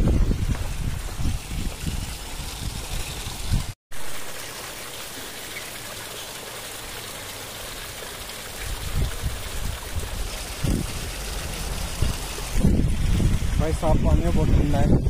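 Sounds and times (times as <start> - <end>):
waterfall splashing over rocks: 1.6 - 15.0.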